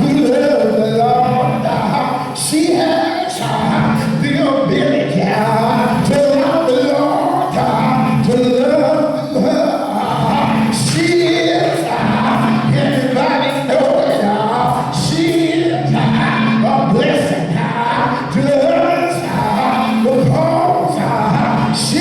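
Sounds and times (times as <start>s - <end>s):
voices singing gospel song: 0.0s - 22.0s.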